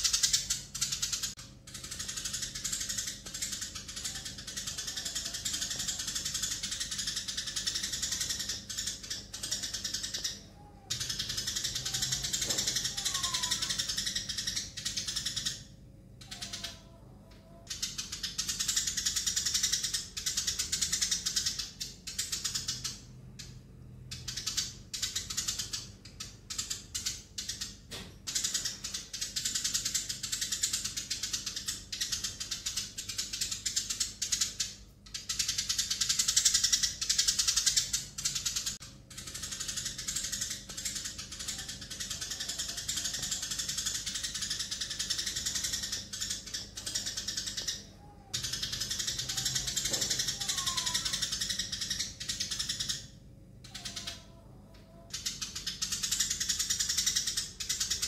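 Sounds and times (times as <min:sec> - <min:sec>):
sparrows chirping and chattering: 0:00.0 - 0:58.0.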